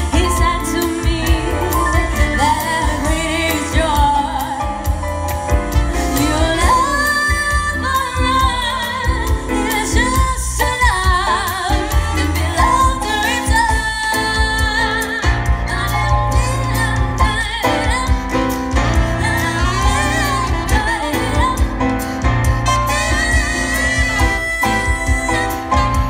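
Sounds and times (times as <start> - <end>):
woman singing into microphone: 0.0 - 5.0, 5.9 - 26.0
bossa nova band with piano: 0.0 - 26.0.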